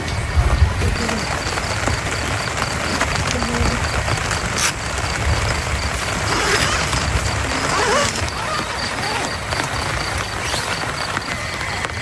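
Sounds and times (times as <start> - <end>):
rain: 0.0 - 12.0
wind gusts rumbling: 0.0 - 12.0.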